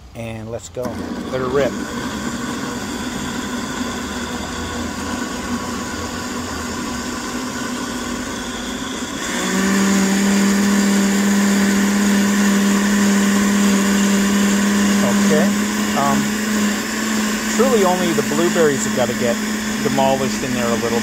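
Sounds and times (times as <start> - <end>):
blender humming: 0.8 - 21.0.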